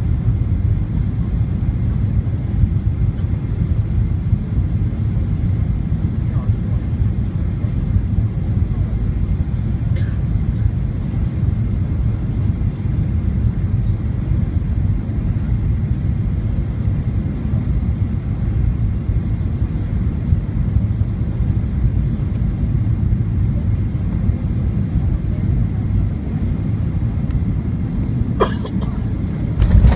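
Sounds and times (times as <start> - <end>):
airplane cabin engine rumble: 0.0 - 29.9.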